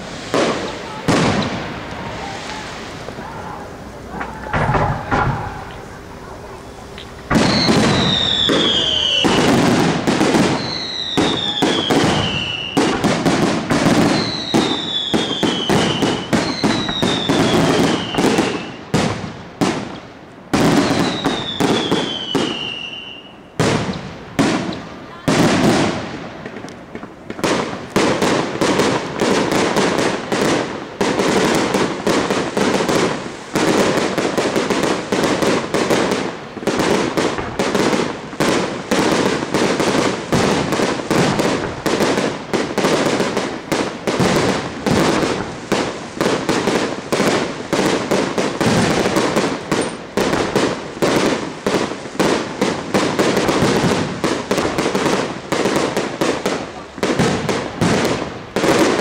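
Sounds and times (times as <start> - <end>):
fireworks bursting with sharp bangs: 0.0 - 59.0.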